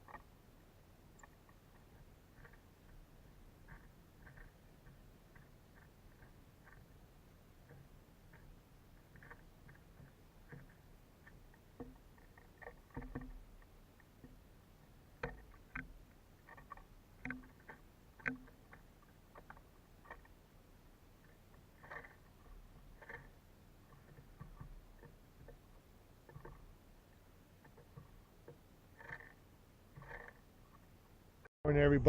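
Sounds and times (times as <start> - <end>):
birds pecking at feeder: 1.0 - 31.2.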